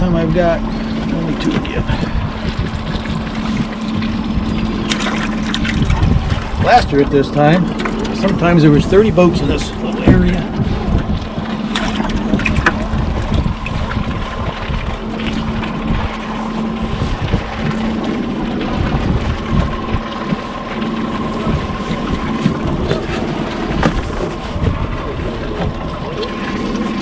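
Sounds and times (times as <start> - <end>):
outboard motor humming: 0.0 - 27.0
wind noise on microphone: 0.0 - 27.0.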